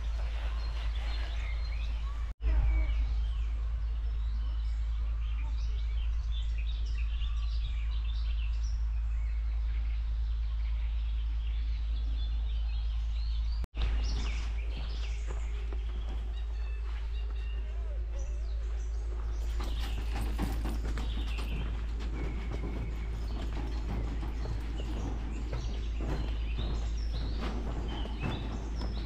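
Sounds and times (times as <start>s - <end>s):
songbirds chirping and singing: 0.0s - 29.0s
steady low rumble: 1.6s - 29.0s.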